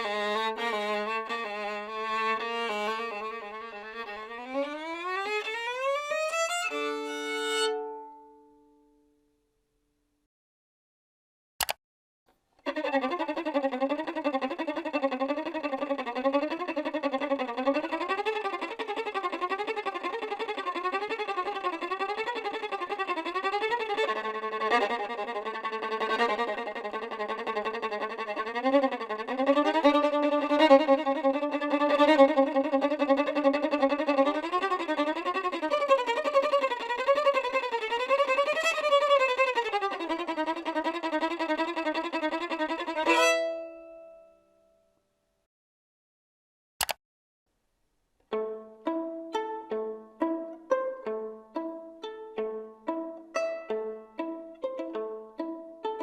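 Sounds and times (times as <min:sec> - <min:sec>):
solo violin slow melody: 0:00.0 - 0:08.8, 0:12.6 - 0:44.4, 0:48.3 - 0:56.0.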